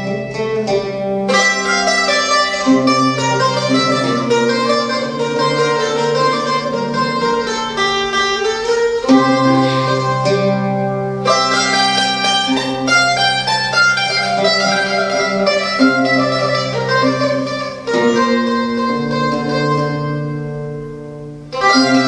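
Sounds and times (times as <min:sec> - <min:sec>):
plucked lute: 0:00.0 - 0:22.0
plucked mandolin melody: 0:00.0 - 0:22.0.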